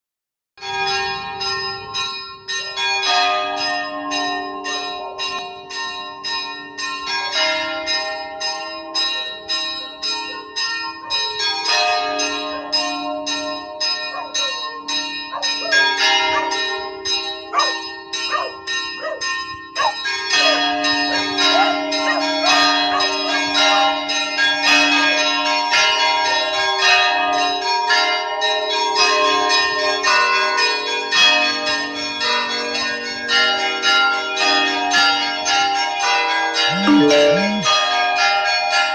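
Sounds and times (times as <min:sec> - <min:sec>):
church bells pealing: 0:00.6 - 0:36.6, 0:37.7 - 0:38.9.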